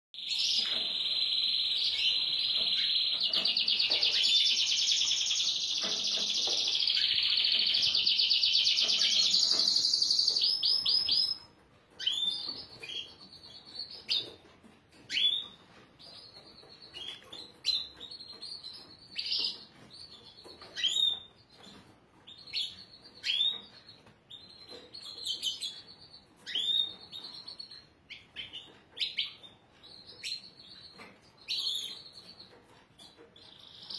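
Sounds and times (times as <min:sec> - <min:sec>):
canary chirps: 0:00.2 - 0:33.9
canary trilling: 0:00.2 - 0:33.9.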